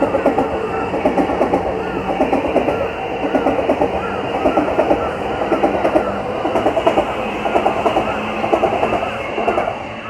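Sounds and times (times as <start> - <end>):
sped-up passing train noise: 0.0 - 10.0.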